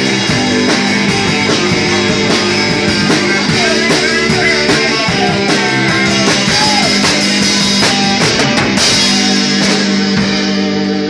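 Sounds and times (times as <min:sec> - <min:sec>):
drum kit: 0:00.0 - 0:11.0
electric guitar: 0:00.0 - 0:11.0.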